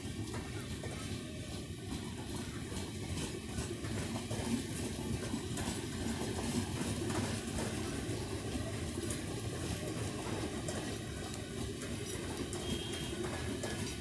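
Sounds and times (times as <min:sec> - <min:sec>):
train rumble: 0:00.0 - 0:14.0
wheels clicking on track: 0:00.0 - 0:14.0.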